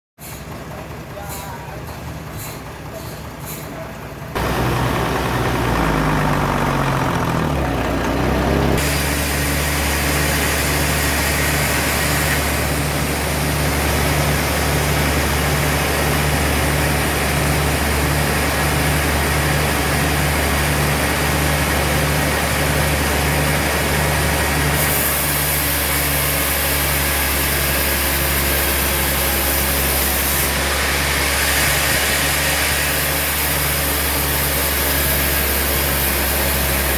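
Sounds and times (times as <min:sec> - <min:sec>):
sawmill machinery motor: 0:00.4 - 0:36.9.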